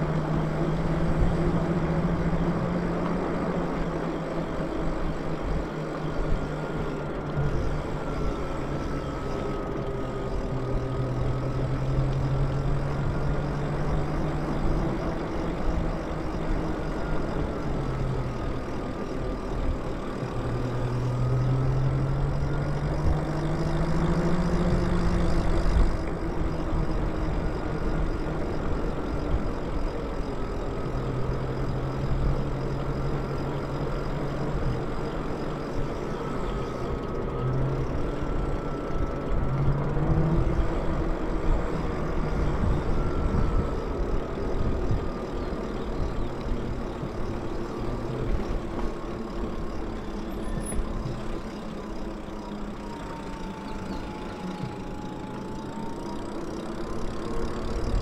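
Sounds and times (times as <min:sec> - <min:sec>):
electric bike motor whining: 0:00.0 - 0:58.0.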